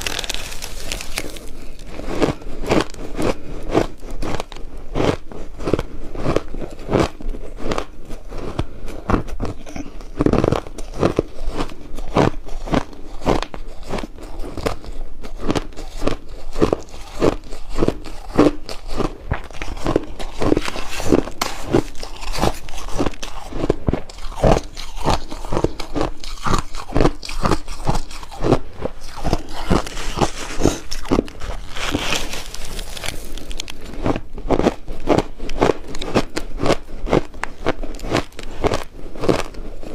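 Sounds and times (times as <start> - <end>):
ice crunching in mouth: 0.0 - 39.9.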